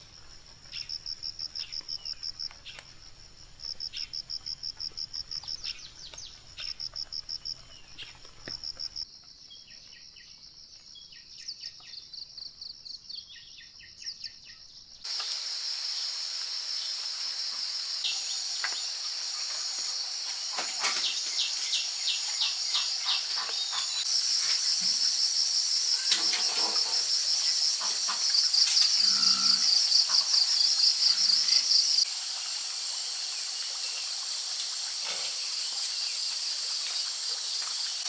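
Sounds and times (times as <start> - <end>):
high insect chorus: 0.0 - 38.0
insects chirping in pulses: 0.0 - 38.0.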